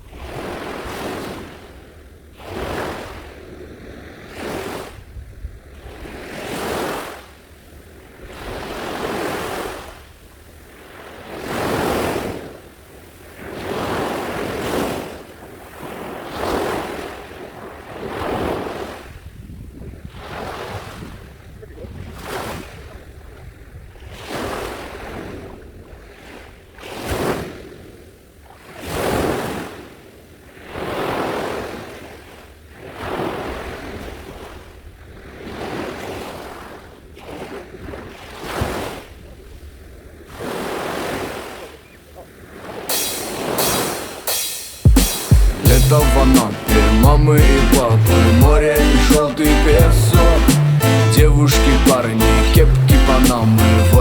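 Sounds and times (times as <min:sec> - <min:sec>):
small waves breaking on shore: 0:00.0 - 0:44.2.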